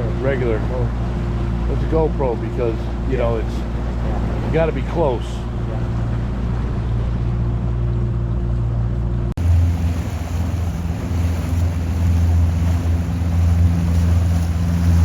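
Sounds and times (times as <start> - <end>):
boat engine droning: 0.0 - 15.0
water noise: 0.0 - 15.0
wind: 0.0 - 15.0.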